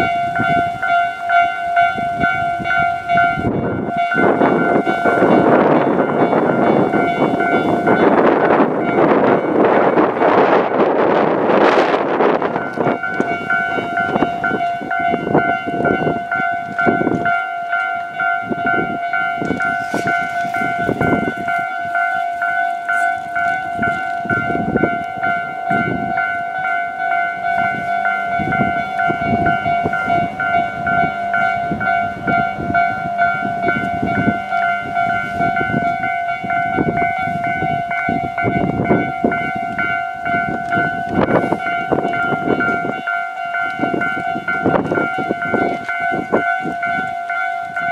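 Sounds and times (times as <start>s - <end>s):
level crossing bell ringing: 0.0s - 47.9s.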